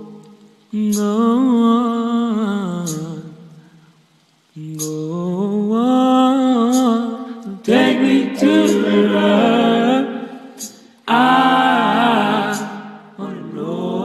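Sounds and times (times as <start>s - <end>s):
man singing a cappella: 0.0s - 3.6s, 4.6s - 10.5s, 11.1s - 14.0s.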